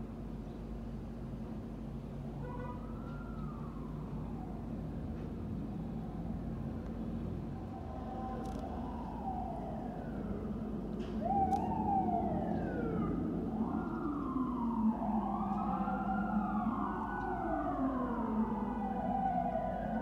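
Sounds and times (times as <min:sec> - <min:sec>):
traffic rumble: 0:00.0 - 0:20.0
fire truck sirens wailing: 0:02.4 - 0:04.9, 0:06.0 - 0:20.0.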